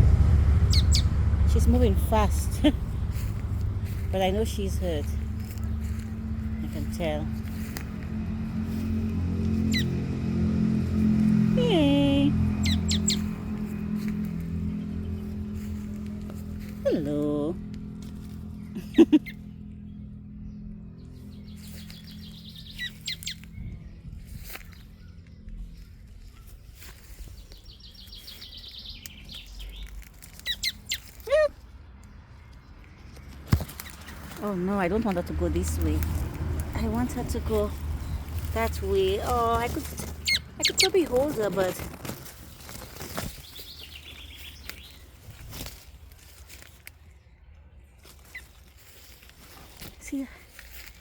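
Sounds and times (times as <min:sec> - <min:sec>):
bird chirping: 0:00.0 - 0:08.0, 0:08.6 - 0:10.3, 0:11.0 - 0:45.6
songbirds calling: 0:00.0 - 0:51.0.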